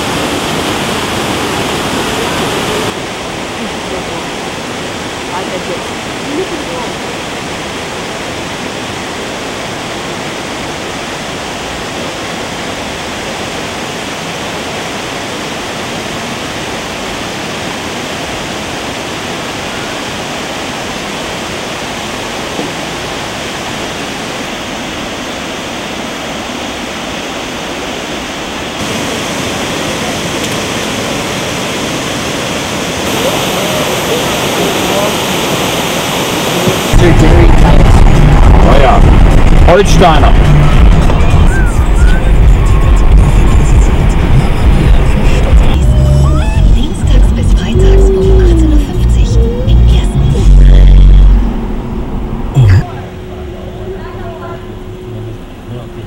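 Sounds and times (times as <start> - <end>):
waterfall rushing: 0.0 - 53.6.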